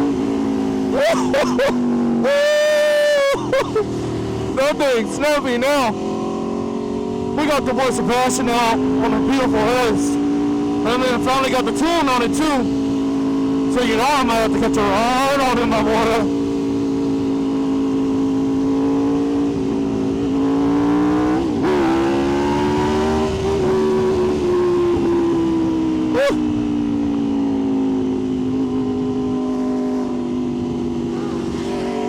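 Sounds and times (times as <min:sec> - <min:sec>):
motorcycle engine cruising: 0:00.0 - 0:32.0.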